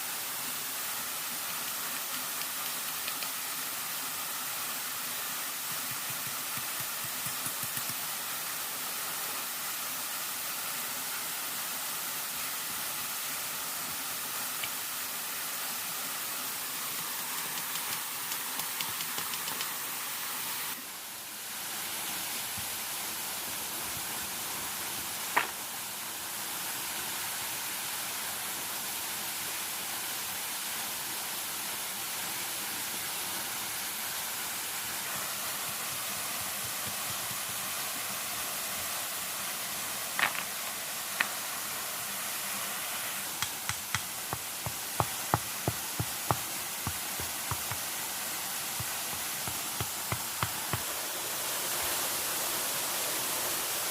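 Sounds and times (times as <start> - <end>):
water rushing: 0.0 - 53.9.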